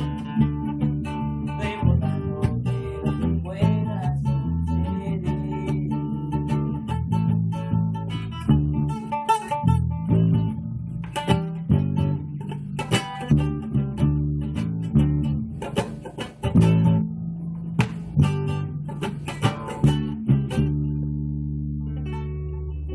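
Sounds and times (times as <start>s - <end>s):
electric bass notes: 0.0s - 22.9s
guitar chords: 0.0s - 22.9s.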